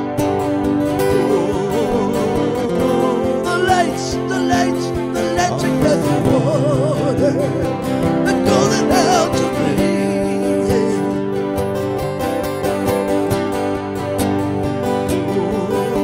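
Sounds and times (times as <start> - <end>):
acoustic guitar strumming: 0.0 - 16.0
wordless wavering melody: 0.0 - 16.0.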